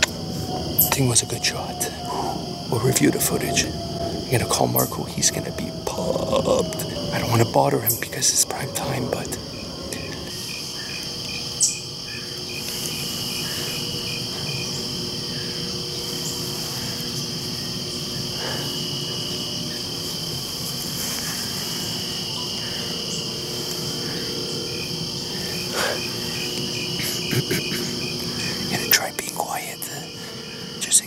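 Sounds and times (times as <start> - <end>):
cricket chirps: 0.0 - 31.0
insects trilling: 0.0 - 31.0.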